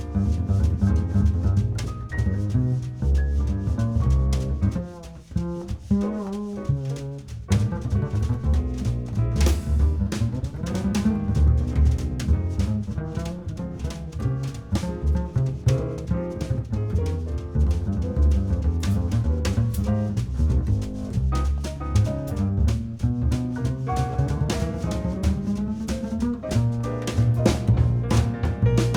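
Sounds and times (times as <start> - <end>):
instrumental music with bass and drums: 0.0 - 28.9.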